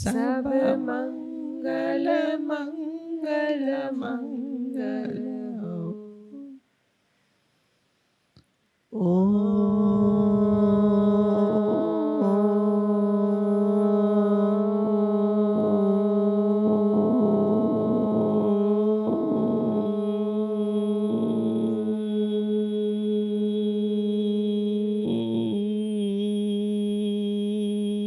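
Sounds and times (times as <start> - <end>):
voices chanting in unison drone: 0.0 - 6.5, 9.0 - 28.0.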